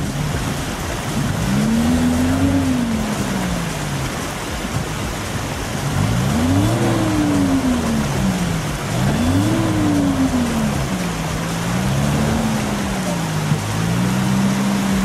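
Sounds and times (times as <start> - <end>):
car engine revving: 0.0 - 15.0
water splashing and rushing: 0.0 - 15.0.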